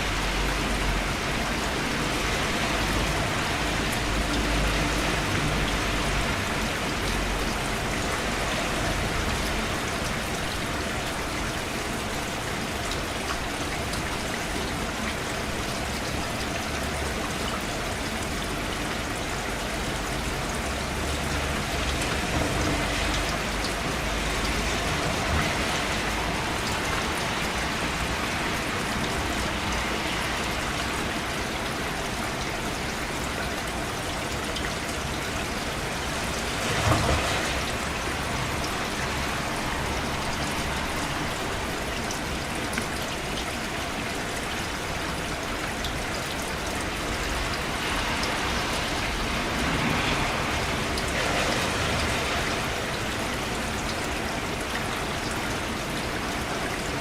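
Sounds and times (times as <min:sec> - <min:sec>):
steady rain hiss: 0:00.0 - 0:57.0
water trickling: 0:00.0 - 0:57.0.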